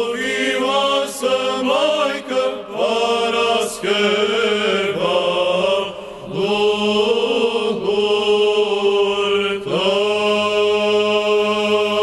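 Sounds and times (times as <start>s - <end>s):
male choir chanting: 0.0s - 12.0s.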